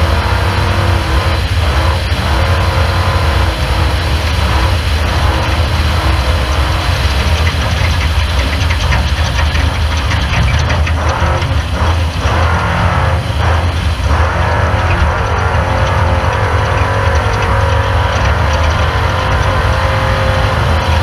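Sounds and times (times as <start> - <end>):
race car engine rumbling: 0.0 - 21.0
rushing noise: 0.0 - 21.0.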